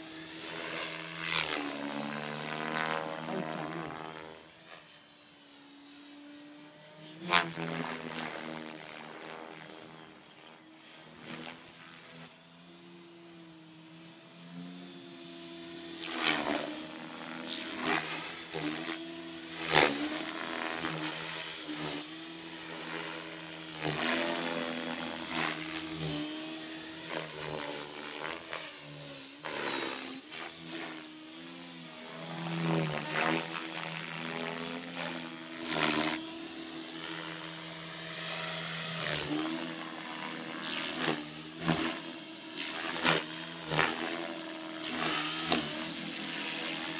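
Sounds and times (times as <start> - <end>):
rc helicopter rotor and motor whine: 0.0 - 46.9.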